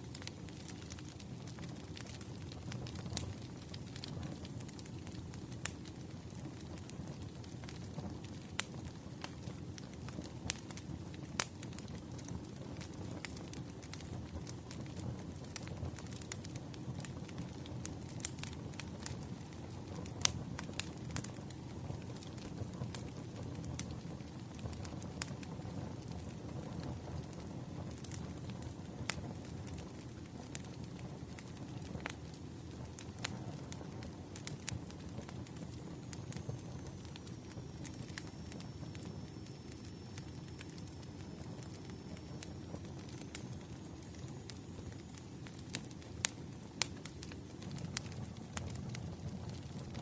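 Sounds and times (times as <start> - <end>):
low rumble of flames: 0.0 - 50.0
wood fire crackling: 0.0 - 50.0
sharp pops of burning logs: 0.1 - 50.0.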